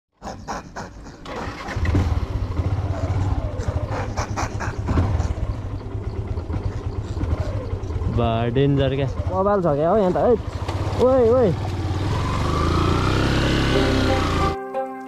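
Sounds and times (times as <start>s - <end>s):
motorcycle engine running: 1.2s - 14.6s.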